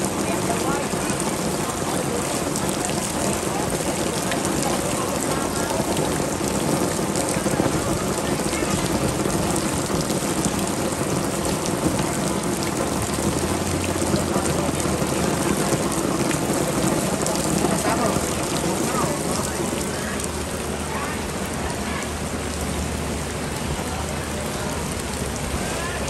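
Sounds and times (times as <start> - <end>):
heavy rain on water: 0.0 - 26.0.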